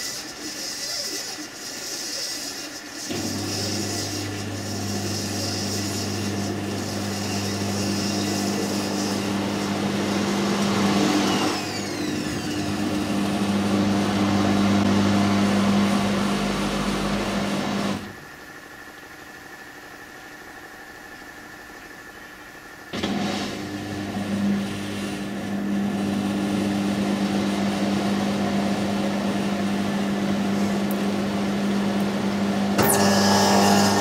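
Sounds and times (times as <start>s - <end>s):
washing machine motor humming: 0.0s - 19.2s, 22.8s - 34.0s.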